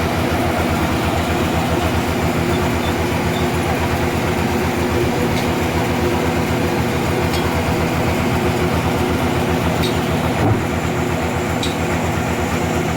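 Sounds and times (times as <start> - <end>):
sawmill machinery running: 0.0 - 12.9.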